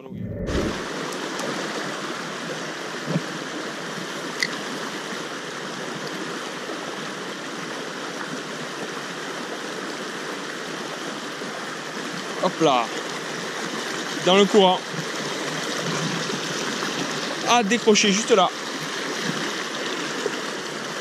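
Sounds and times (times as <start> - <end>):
stream rushing over stones: 0.5 - 21.0.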